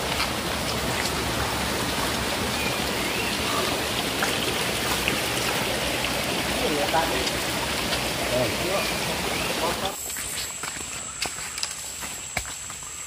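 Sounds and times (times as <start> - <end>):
stream rushing over stones: 0.0 - 13.0.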